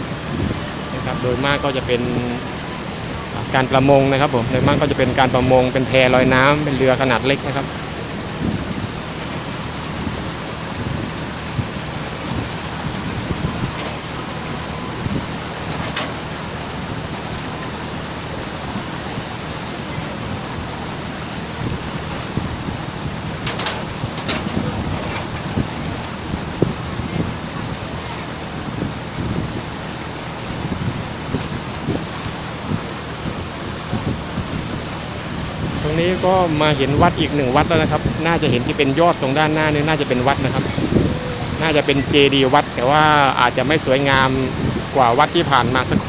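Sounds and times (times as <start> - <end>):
low buffeting rumbles: 0.0 - 46.0
wind and water rushing: 0.0 - 46.0.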